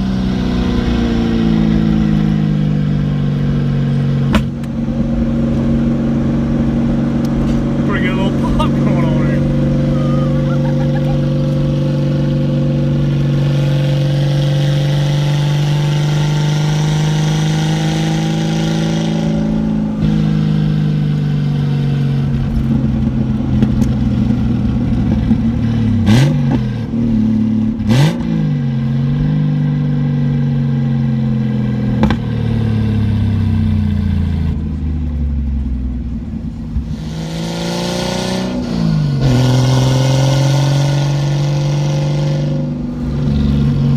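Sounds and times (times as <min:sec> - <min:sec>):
car engine driving: 0:00.0 - 0:43.9.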